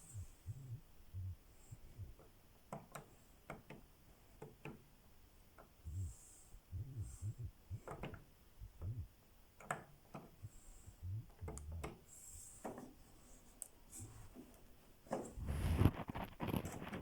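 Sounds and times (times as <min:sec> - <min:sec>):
light clicks and soft knocks: 0:00.1 - 0:06.1, 0:06.7 - 0:17.0.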